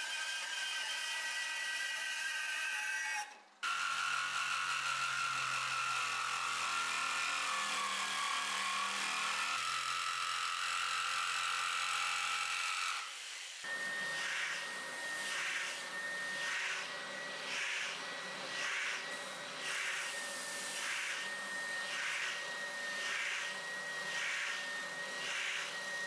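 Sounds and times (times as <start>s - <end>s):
bandsaw running: 3.6s - 26.0s
jigsaw cutting wood: 3.6s - 26.0s.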